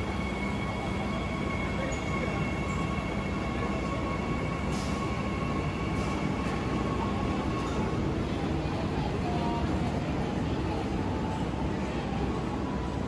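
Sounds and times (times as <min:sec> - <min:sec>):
electric train whine and hum: 0:00.0 - 0:13.0.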